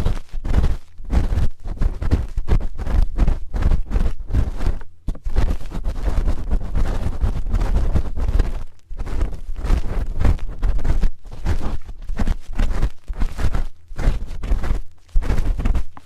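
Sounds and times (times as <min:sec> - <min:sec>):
scraping against ear microphone: 0:00.0 - 0:16.0.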